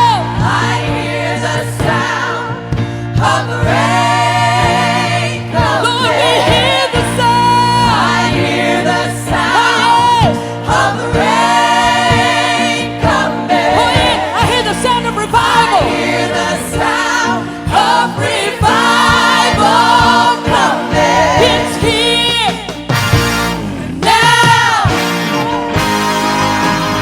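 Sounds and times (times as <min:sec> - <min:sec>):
gospel choir singing: 0:00.0 - 0:27.0
held accompaniment: 0:00.0 - 0:27.0.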